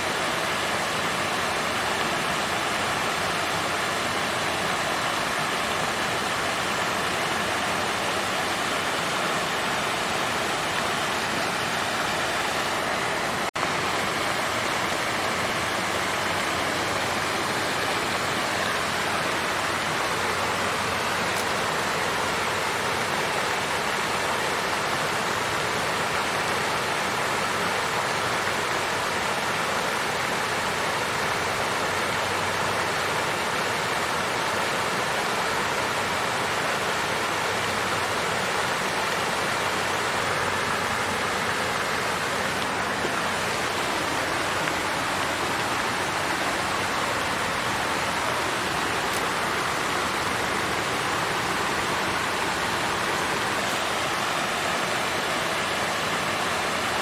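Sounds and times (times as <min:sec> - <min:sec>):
water fountain splashing: 0:00.0 - 0:57.0.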